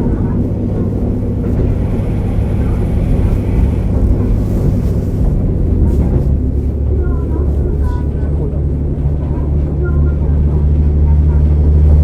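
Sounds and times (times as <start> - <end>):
muffled diesel railcar rumble: 0.0 - 12.0.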